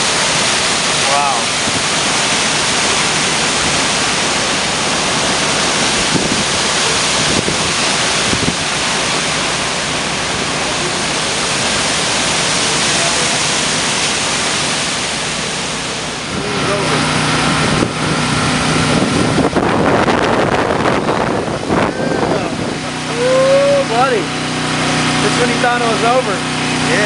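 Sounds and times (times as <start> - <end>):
heavy rain: 0.0 - 27.0
hurricane wind: 0.0 - 27.0.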